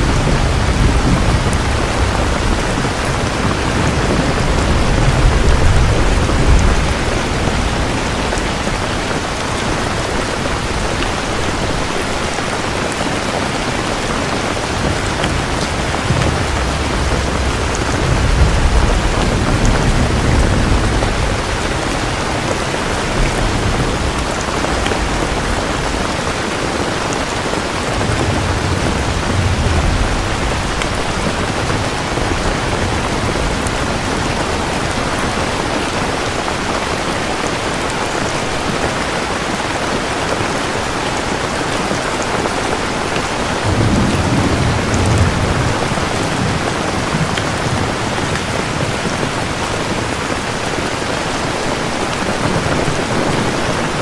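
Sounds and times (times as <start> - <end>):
distant thunder rumbling: 0.0 - 37.0, 41.2 - 51.1
heavy rain falling: 0.0 - 54.0.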